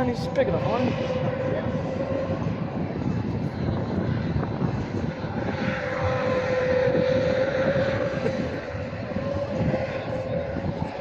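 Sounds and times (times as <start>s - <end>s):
loud engine high pitch: 0.0s - 11.0s.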